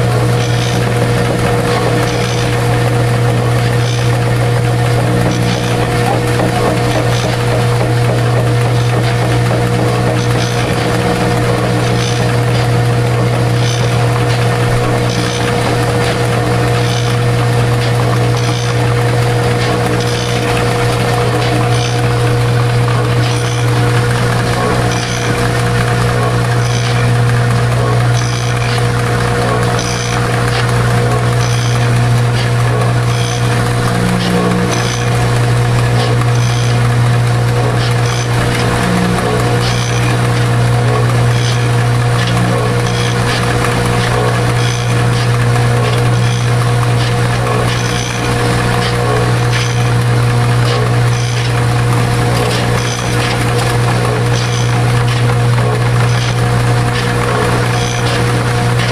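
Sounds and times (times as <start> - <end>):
mixer machine humming and whining: 0.0 - 58.9.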